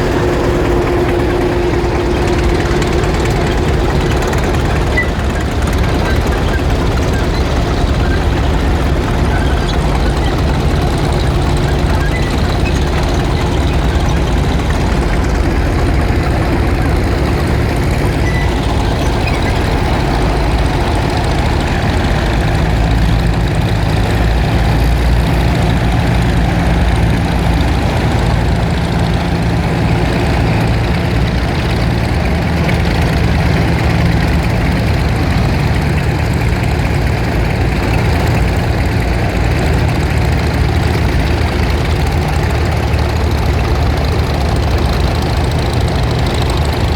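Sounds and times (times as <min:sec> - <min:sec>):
tractor engines droning: 0:00.0 - 0:46.9.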